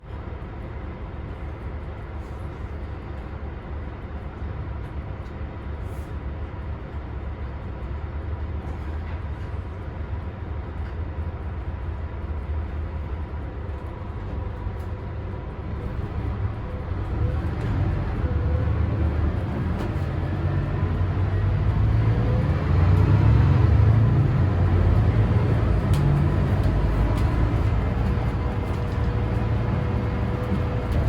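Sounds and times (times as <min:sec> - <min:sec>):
bus diesel engine running: 0:00.0 - 0:31.0.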